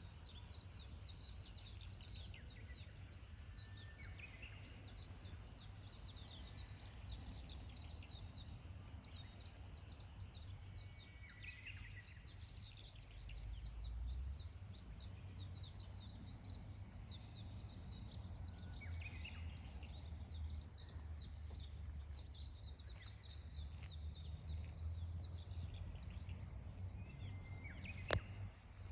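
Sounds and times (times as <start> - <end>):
songbirds chirping: 0.0 - 28.9
warbler song: 0.0 - 28.9.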